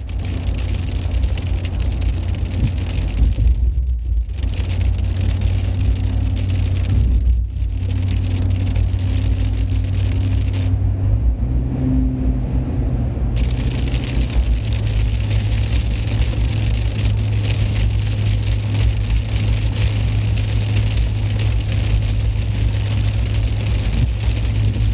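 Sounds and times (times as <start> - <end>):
rain hissing: 0.0 - 10.8, 13.4 - 24.9
constant low rumble: 0.0 - 24.9.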